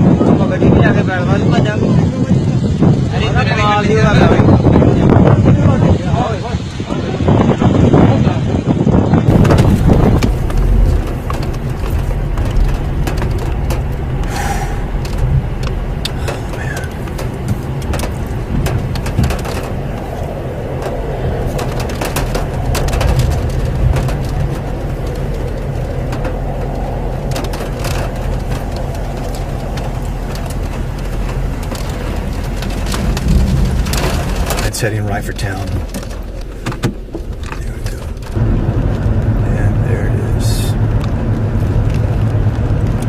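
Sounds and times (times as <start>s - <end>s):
wind gusts hitting microphone: 0.0s - 43.0s
wind rumbling: 0.0s - 43.0s.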